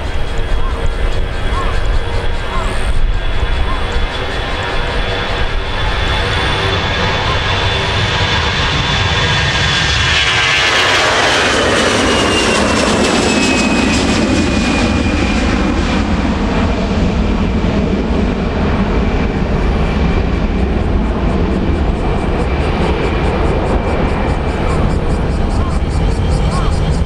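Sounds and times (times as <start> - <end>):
jet airliner taking off: 0.0 - 27.0.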